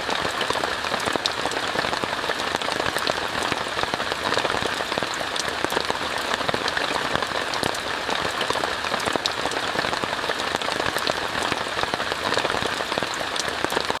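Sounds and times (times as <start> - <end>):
rain on a tent: 0.0 - 14.0.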